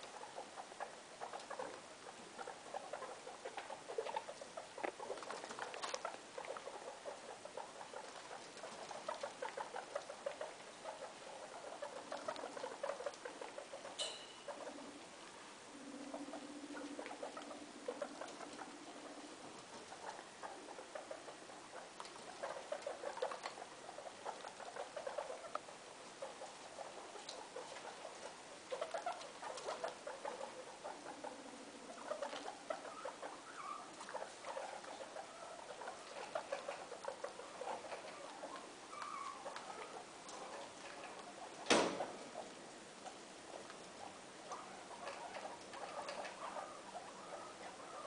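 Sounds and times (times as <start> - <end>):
guinea pigs chewing hay: 0.0 - 48.0.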